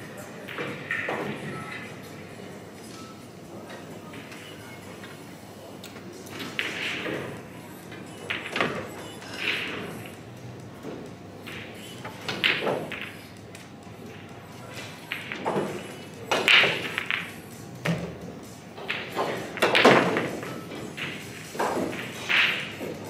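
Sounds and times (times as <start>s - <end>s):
pool balls knocking in a hall: 0.0s - 23.0s.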